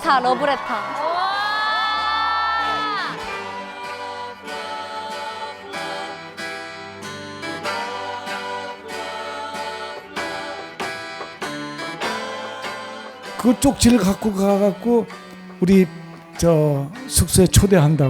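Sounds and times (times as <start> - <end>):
acoustic guitar melody: 0.0 - 18.0.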